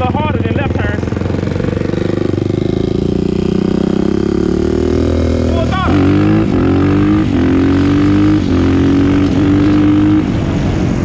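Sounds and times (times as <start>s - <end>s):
quad bike engine at full throttle: 0.0s - 11.0s.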